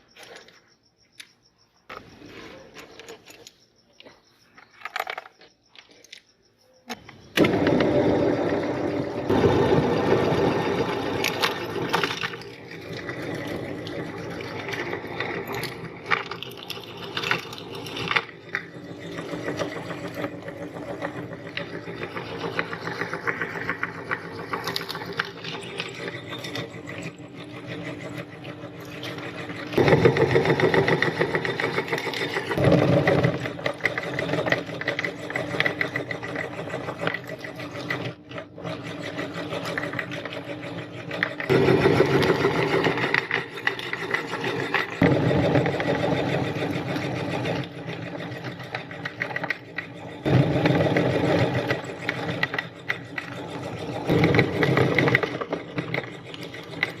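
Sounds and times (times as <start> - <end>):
meat grinder motor running: 7.3 - 57.0.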